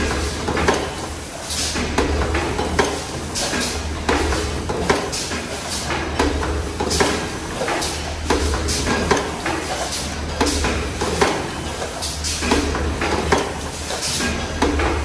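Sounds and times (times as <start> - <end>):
press machine metal clanks: 0.0 - 15.0.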